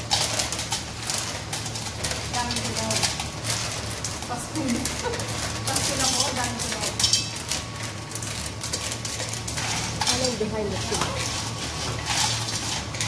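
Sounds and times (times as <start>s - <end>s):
butter sizzling: 0.0s - 13.0s
shells clattering in metal pot: 0.0s - 13.0s.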